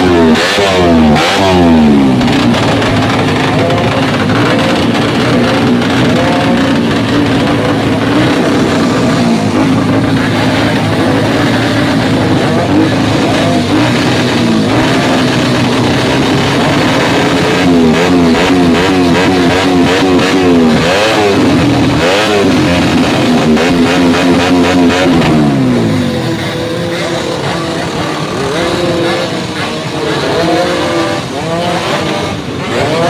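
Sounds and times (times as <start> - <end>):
engine revving: 0.0 - 33.0
exhaust pops and crackles: 0.0 - 33.0.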